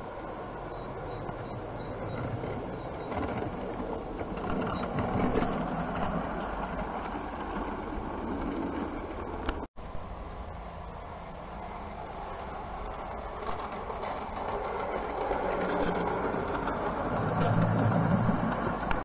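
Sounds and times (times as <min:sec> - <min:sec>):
model train clattering on track: 0:00.1 - 0:09.7, 0:12.2 - 0:19.0.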